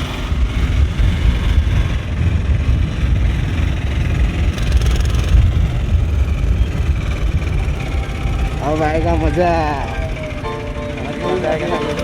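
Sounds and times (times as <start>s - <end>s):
vehicle engine uneven rumble: 0.0s - 11.1s.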